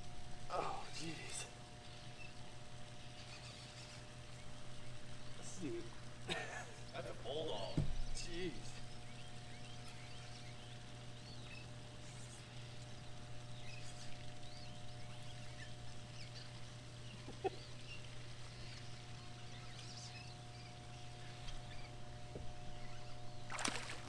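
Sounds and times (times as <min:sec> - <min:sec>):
steady low hum: 0:00.0 - 0:24.0
small birds chirping: 0:00.4 - 0:24.0.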